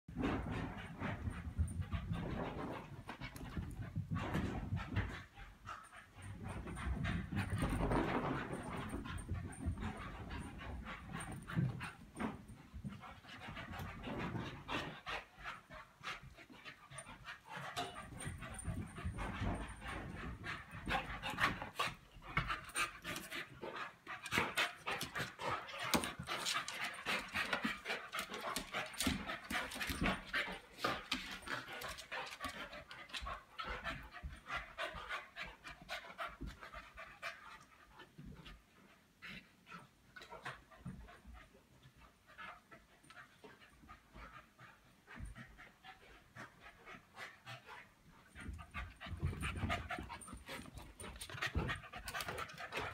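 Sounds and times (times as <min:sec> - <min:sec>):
dogs panting: 0:00.2 - 0:52.9.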